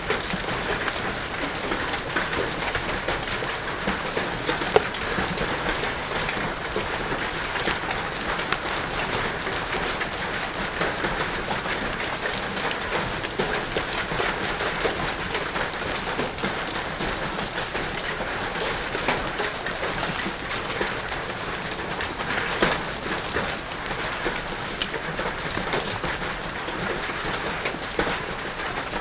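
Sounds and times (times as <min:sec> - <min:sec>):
rain and hail striking: 0:00.0 - 0:29.0.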